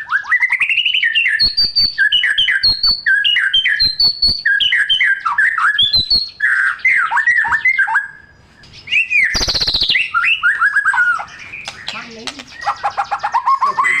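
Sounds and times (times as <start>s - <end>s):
songbird whistling: 0.0s - 14.0s.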